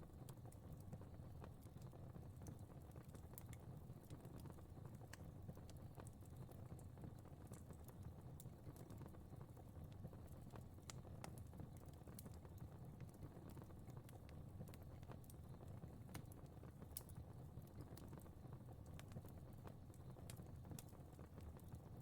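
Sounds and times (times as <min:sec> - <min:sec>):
fire crackling: 0:00.1 - 0:22.0.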